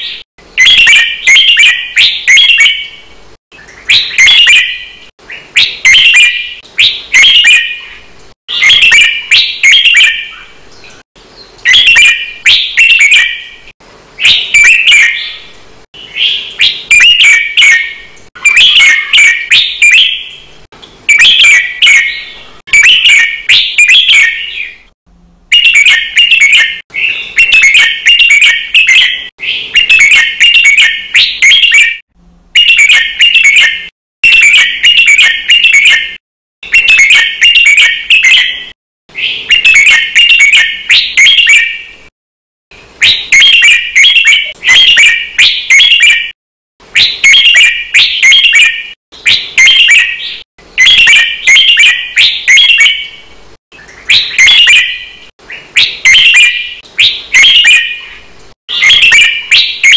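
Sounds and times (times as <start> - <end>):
bulbul singing: 0.0 - 32.0, 32.6 - 41.9, 43.0 - 46.4, 47.0 - 53.2, 53.8 - 59.9.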